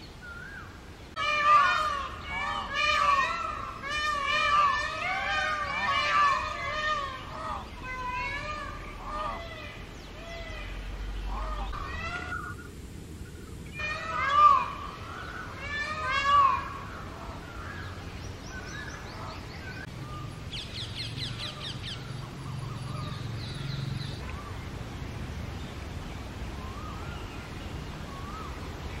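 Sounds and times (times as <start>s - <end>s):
peacock calling: 0.0s - 24.6s, 26.6s - 29.0s
small birds chirping and trilling: 0.0s - 29.0s.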